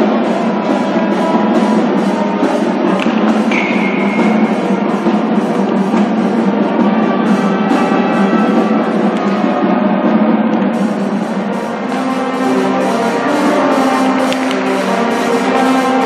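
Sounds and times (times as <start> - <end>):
music with drums and percussion: 0.0 - 16.0.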